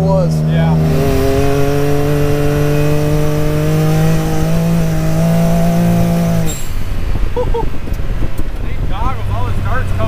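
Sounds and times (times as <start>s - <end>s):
turbocharged engine running: 0.0s - 10.0s.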